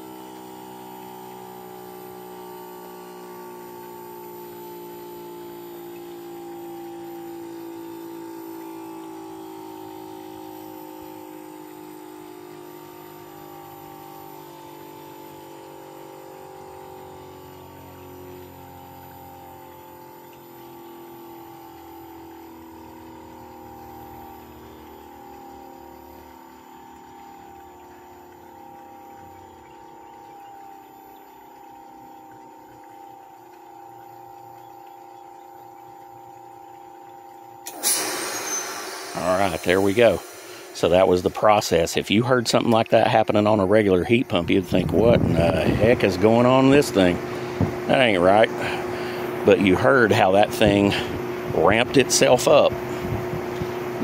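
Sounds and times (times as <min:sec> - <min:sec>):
deeper low hum: 0:00.0 - 0:54.0
heat pump compressor hum: 0:00.0 - 0:54.0.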